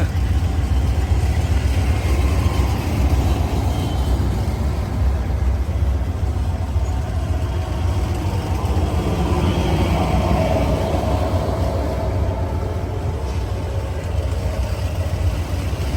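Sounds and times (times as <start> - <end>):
diesel train rumbling: 0.0 - 15.9.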